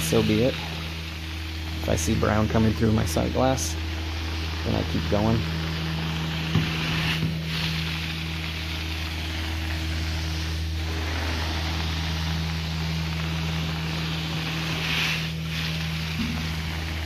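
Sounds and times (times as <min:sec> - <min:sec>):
carpet extraction vacuum hiss: 0:00.0 - 0:17.0.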